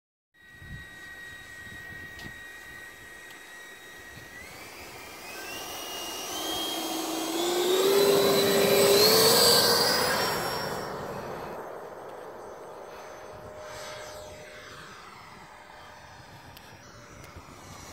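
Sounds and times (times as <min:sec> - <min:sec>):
model jet electric fans whining: 0:00.4 - 0:17.9.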